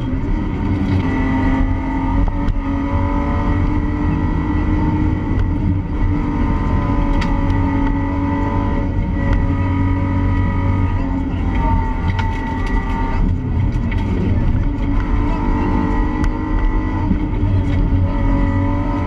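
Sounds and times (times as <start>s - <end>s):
rally car engine running: 0.0s - 19.0s.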